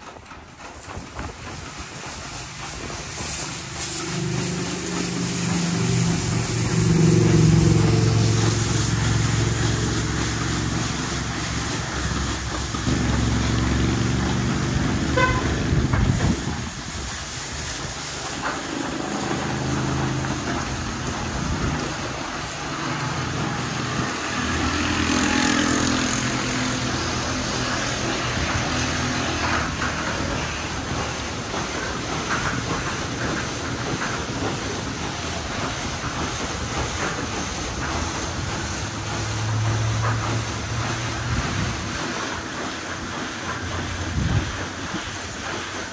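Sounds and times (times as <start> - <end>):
car wash motor and pump hum: 0.0 - 45.9
water spray hissing: 1.0 - 45.9.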